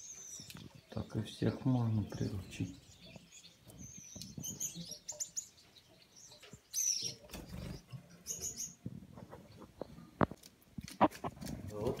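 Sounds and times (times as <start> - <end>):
finches chirping: 0.0 - 10.1.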